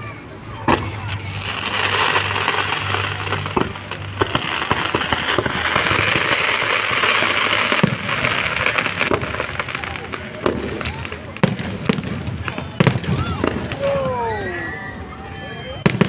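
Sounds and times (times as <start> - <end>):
fireworks cracking and popping: 0.0 - 14.8, 15.4 - 16.0
continuous crackling hiss: 0.0 - 16.0.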